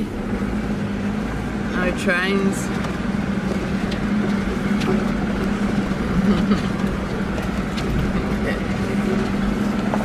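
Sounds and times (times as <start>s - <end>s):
engine hum inside car: 0.0s - 10.0s.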